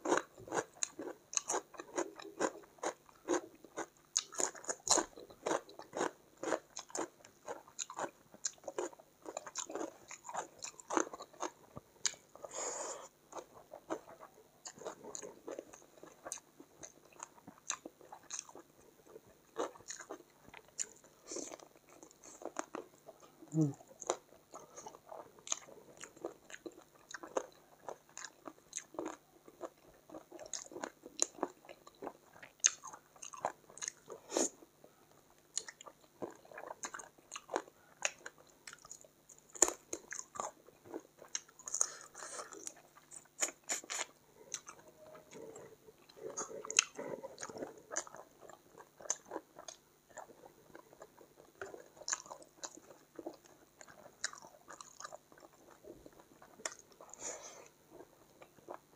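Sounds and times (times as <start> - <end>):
chewing crunches: 0.0 - 12.5, 13.3 - 34.4, 35.5 - 58.9.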